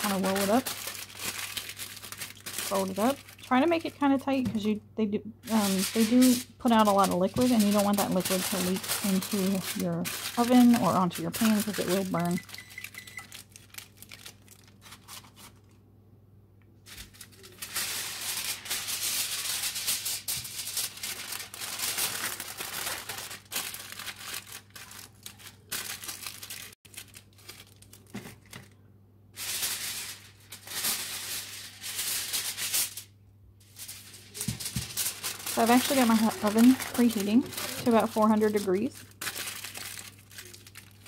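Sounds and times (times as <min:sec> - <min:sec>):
aluminium foil crinkling: 0:00.0 - 0:04.3, 0:05.4 - 0:15.8, 0:16.8 - 0:28.8, 0:29.4 - 0:41.0.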